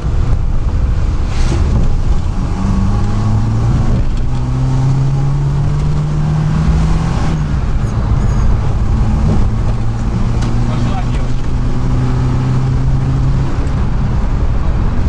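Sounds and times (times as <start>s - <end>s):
car engine pulling: 0.0s - 15.0s
road rumble: 0.0s - 15.0s.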